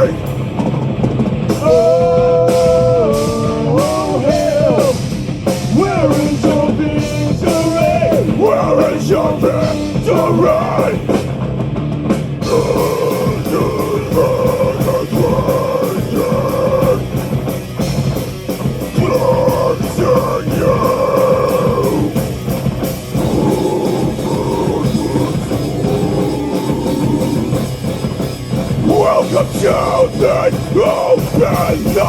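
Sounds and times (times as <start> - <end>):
distorted electric guitars: 0.0 - 32.0
drum kit with cymbals: 0.0 - 32.0.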